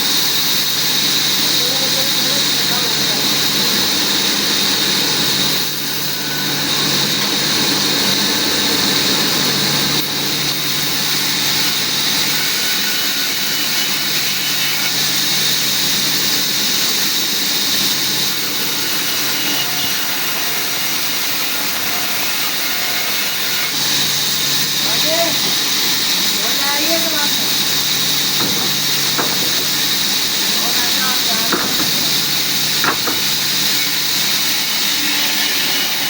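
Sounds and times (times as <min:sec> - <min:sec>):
woodworking machine hissing: 0:00.0 - 0:36.0.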